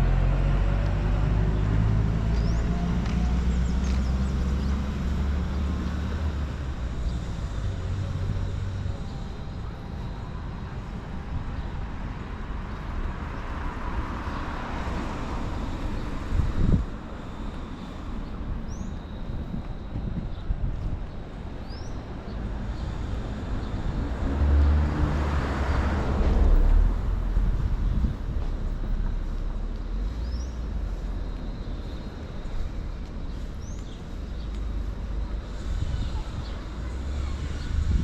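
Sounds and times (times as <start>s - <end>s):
outdoor background noise: 0.0s - 38.0s
vehicle engine rumble: 0.0s - 38.0s.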